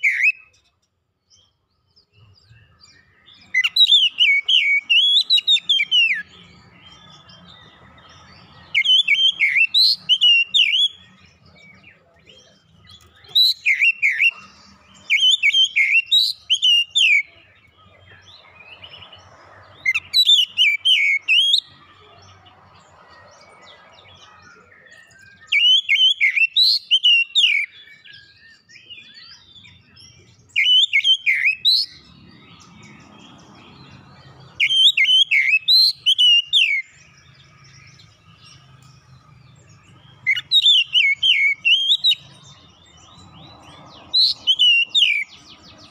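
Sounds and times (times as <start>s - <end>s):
bird singing whistles and chirps: 0.0s - 45.9s.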